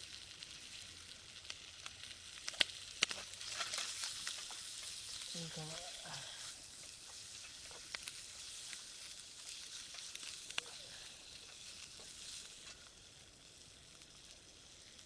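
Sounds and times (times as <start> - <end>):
chicken skin sizzling in a pan: 0.0 - 15.0.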